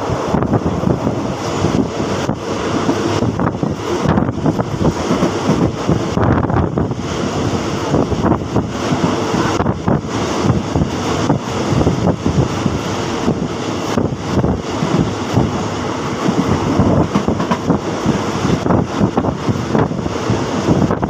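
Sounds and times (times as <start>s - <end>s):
train running noise: 0.0s - 21.0s
wind buffeting microphone: 0.0s - 21.0s.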